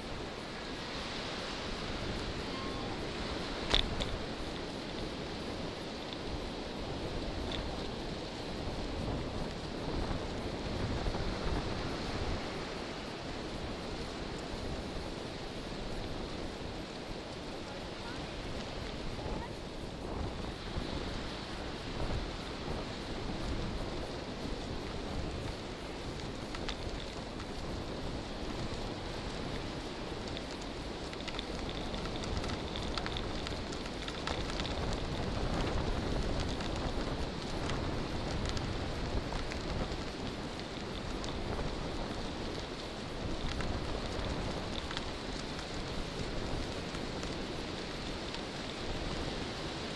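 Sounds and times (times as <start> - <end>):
bicycle tyres rolling over sand: 0.0 - 49.9
surf breaking on shore: 0.0 - 49.9
wind rumble on microphone: 0.0 - 49.9.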